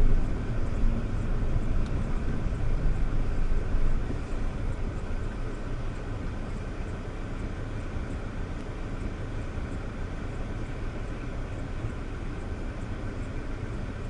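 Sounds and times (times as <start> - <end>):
car engine and tyres on road: 0.0 - 14.0.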